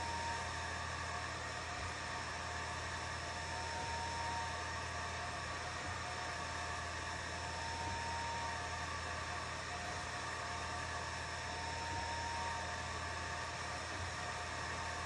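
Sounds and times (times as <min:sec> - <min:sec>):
cooling fan whirring: 0:00.0 - 0:15.0
faint high motor whine: 0:00.0 - 0:15.0.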